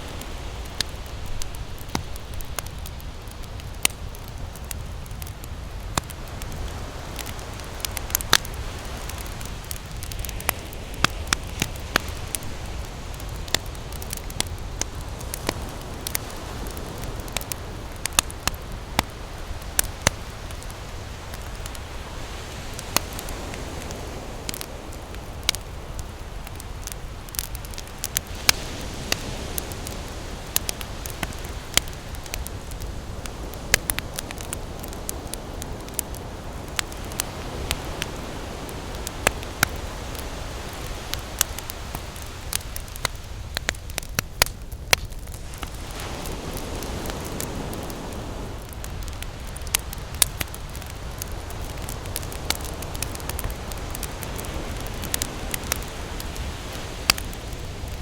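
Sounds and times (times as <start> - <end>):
campfire crackling and popping: 0.0 - 58.0
ocean waves: 0.0 - 58.0.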